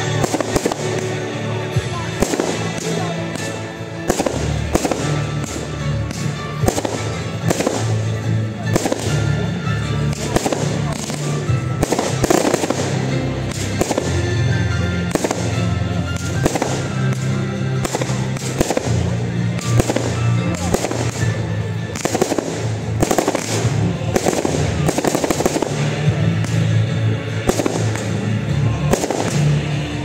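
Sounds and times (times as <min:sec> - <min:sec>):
fireworks banging and crackling: 0:00.0 - 0:30.0
music with sustained bass notes: 0:00.0 - 0:30.0.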